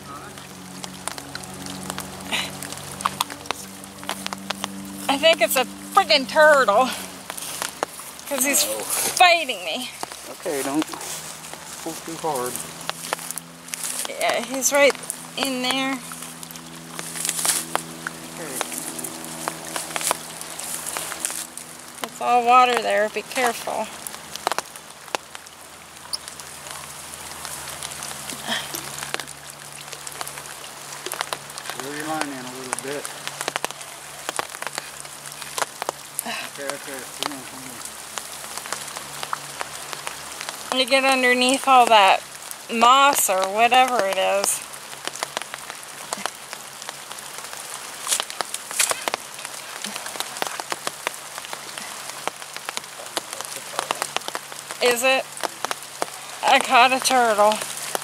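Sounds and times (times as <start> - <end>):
light rain falling: 0.0 - 58.0
single raindrops ticking: 0.0 - 58.0.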